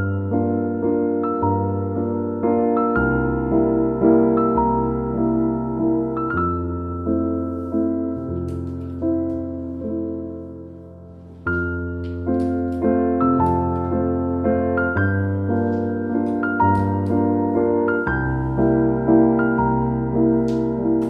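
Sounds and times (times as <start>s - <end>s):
slow instrumental music: 0.0s - 21.0s.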